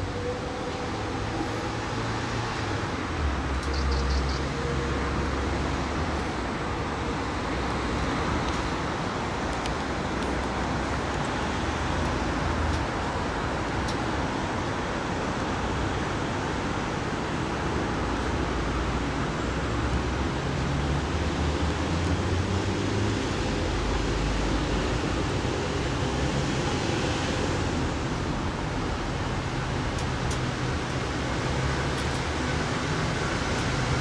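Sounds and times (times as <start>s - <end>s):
street traffic hiss: 0.0s - 34.0s.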